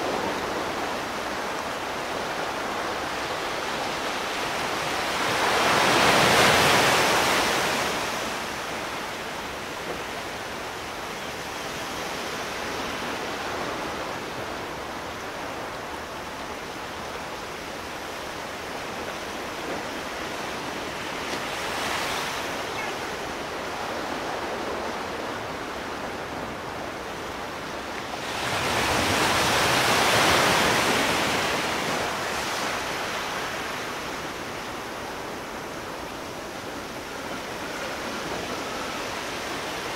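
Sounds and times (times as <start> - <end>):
rush of water: 0.0 - 39.9
waves breaking: 0.0 - 39.9.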